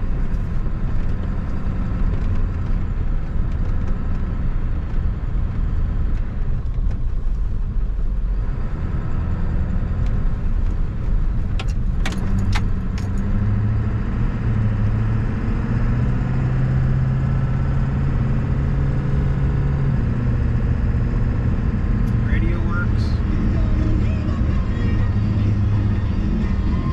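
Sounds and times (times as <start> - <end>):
diesel engine running: 0.0 - 26.9
road rumble: 0.0 - 26.9.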